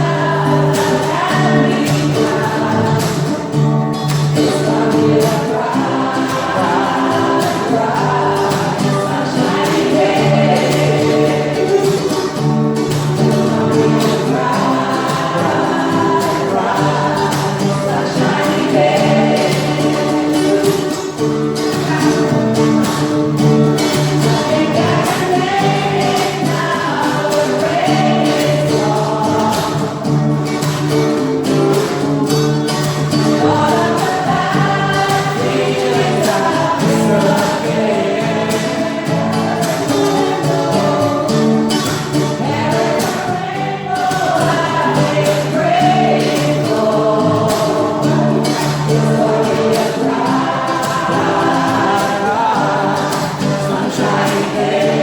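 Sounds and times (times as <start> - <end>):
choir singing gospel song: 0.0 - 55.0.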